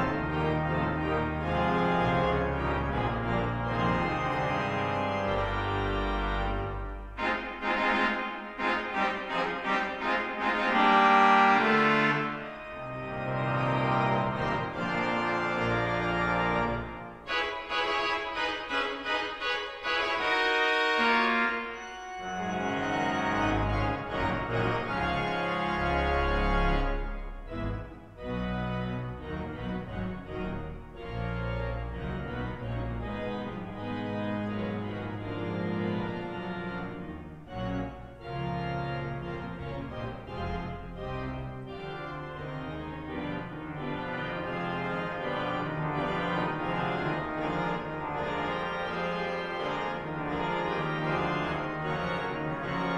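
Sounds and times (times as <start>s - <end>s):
deep organ pedal bass notes: 0.0s - 52.9s
pipe organ chords: 0.0s - 52.9s.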